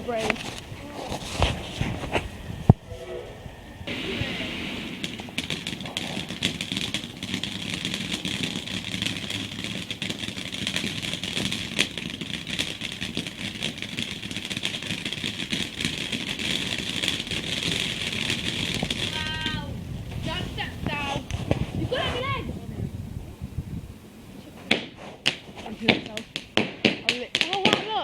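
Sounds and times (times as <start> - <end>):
firework hissing and crackling: 0.0 - 28.0.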